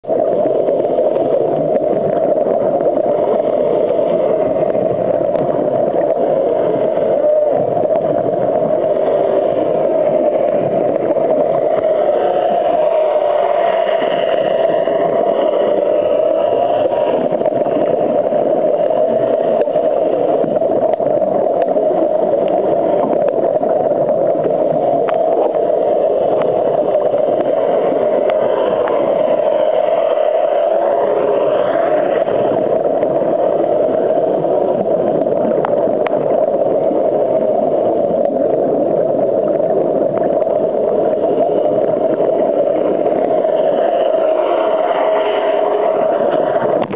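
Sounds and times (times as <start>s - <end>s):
muffled underwater rushing: 0.0s - 46.9s.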